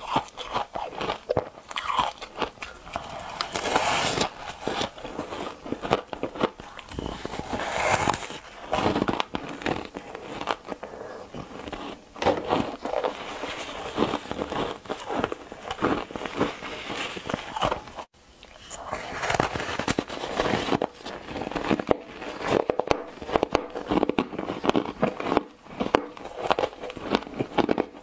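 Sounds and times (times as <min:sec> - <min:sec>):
ice being chewed with crunches: 0:00.0 - 0:28.0.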